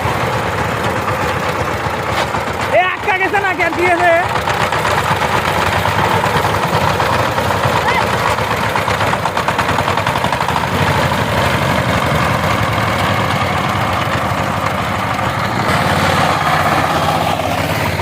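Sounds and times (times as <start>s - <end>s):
diesel tiller engine chugging: 0.0s - 18.0s.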